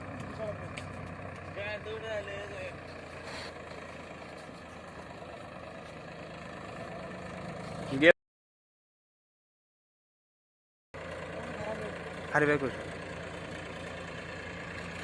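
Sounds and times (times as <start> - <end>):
diesel tractor engine idling: 0.0 - 8.1, 11.0 - 15.0.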